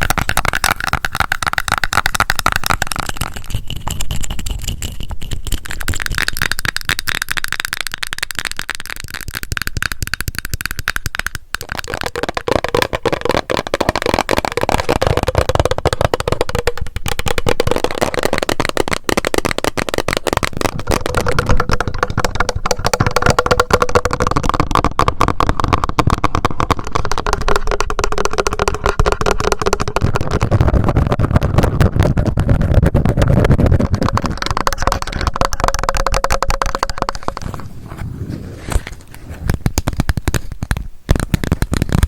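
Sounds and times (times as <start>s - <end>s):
fast tapping on objects: 0.0s - 37.7s, 39.4s - 42.0s
scratching on objects: 0.0s - 42.0s.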